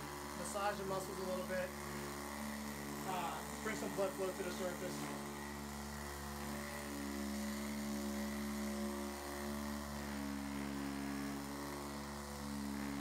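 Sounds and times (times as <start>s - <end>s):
electric massager motor hum: 0.0s - 13.0s.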